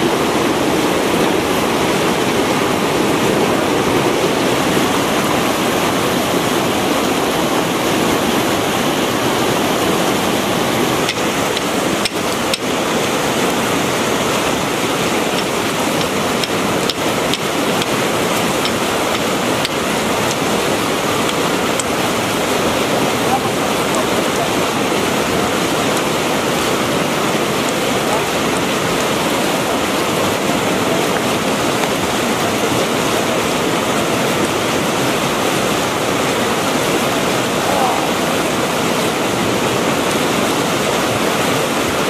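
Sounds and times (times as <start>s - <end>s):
river rushing over rocks: 0.0s - 42.0s.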